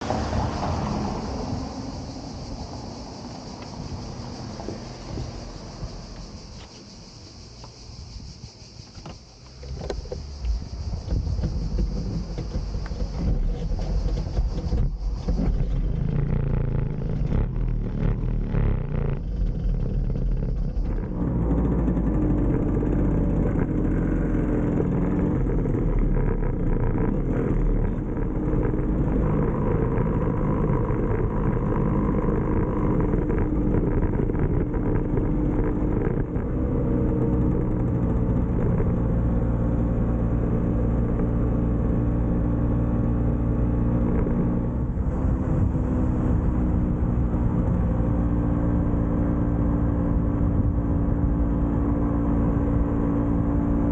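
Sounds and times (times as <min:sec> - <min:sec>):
scooter engine running: 0:00.0 - 0:06.8, 0:08.9 - 0:53.9.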